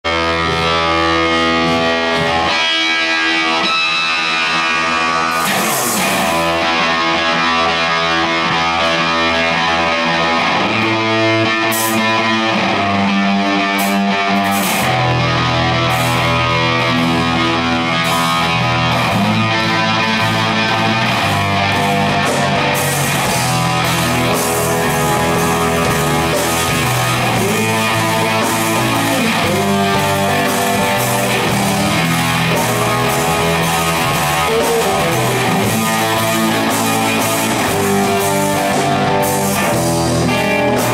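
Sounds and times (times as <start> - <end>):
electric guitars: 0.0 - 40.9
drums with cymbal hits: 0.4 - 9.6, 13.7 - 40.9.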